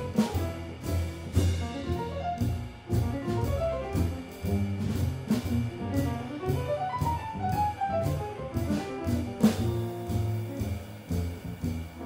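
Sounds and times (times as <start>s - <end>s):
drum kit cymbal beat: 0.0s - 12.0s
grand piano: 0.0s - 12.0s
plucked double bass: 0.0s - 12.0s.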